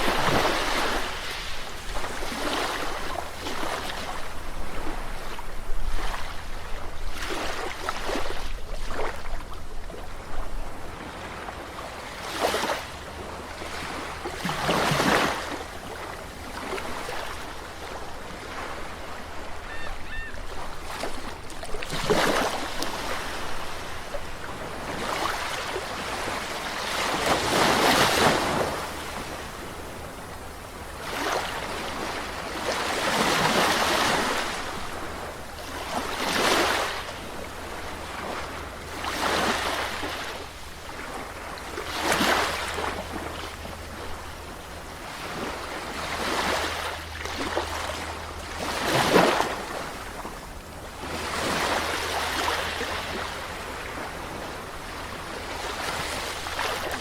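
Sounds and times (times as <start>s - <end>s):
waves washing on shore: 0.0s - 57.0s.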